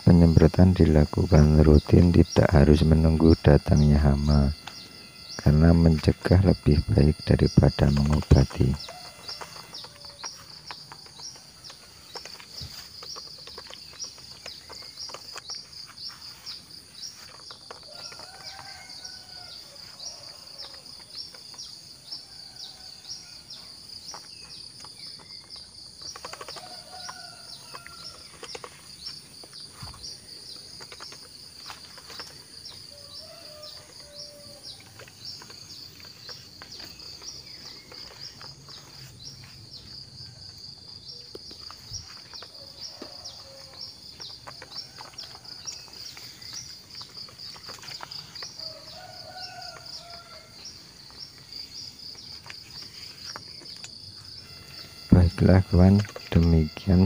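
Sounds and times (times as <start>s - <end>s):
birds calling: 0.0s - 57.0s
insects trilling: 0.0s - 57.0s.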